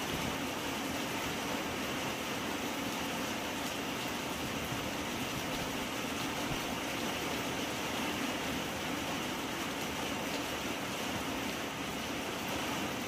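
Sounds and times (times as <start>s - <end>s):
heavy rain pouring on road: 0.0s - 13.0s.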